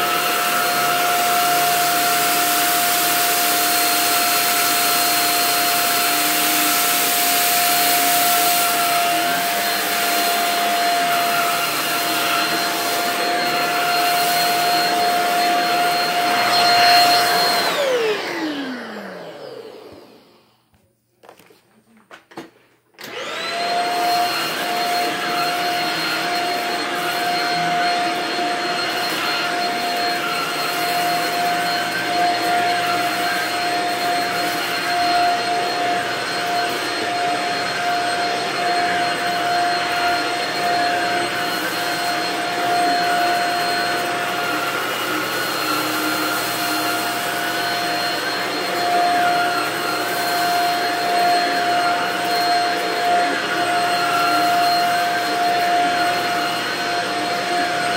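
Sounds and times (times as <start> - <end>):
vacuum cleaner whining: 0.0 - 57.9
vacuum floor head on rug: 0.0 - 57.9.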